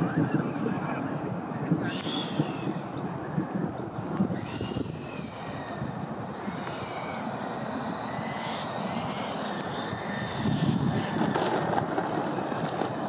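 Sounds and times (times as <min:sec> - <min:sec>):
electric ducted fans whining: 0:00.0 - 0:13.0
wheels crackling over grit: 0:00.0 - 0:13.0.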